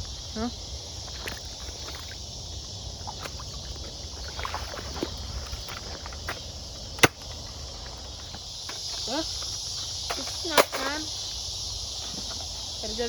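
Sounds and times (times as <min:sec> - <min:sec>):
high insect hum: 0:00.0 - 0:13.0
low wind rumble: 0:00.0 - 0:13.0.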